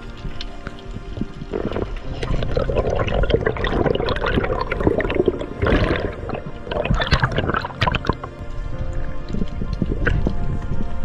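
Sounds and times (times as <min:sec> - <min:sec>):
sea water sloshing: 0:00.0 - 0:11.0
splashes and bubbles clicking: 0:00.0 - 0:11.0.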